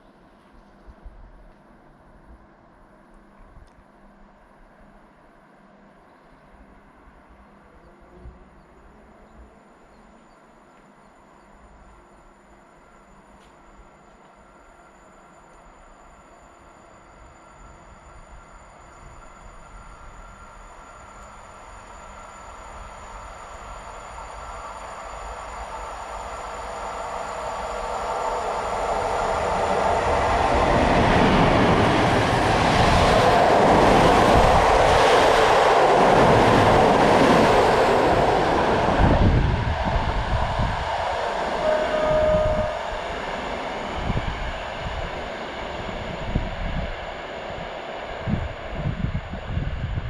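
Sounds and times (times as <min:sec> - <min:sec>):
passenger train passing: 0:00.0 - 0:50.0
train wheel squeal: 0:07.5 - 0:50.0.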